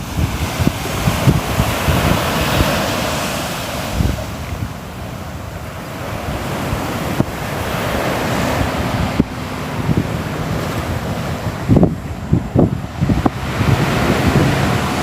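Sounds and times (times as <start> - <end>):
sea waves washing onto shore: 0.0 - 15.0
wind thumps on microphone: 0.0 - 15.0.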